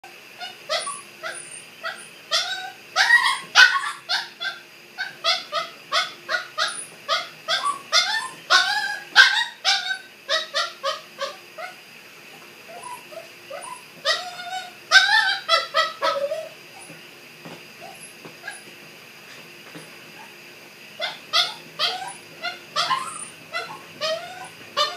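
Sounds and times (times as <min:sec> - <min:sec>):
puppy whining: 0:00.0 - 0:11.8, 0:12.6 - 0:17.0, 0:17.8 - 0:18.7, 0:19.8 - 0:20.4, 0:21.0 - 0:24.9.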